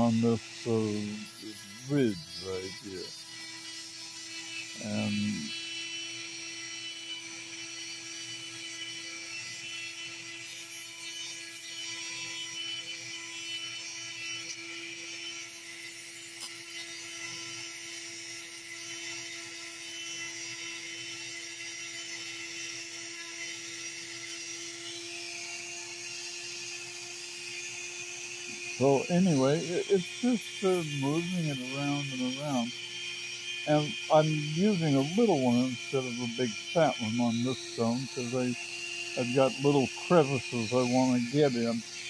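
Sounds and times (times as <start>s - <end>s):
rotary tool whining while grinding: 0.0s - 42.0s.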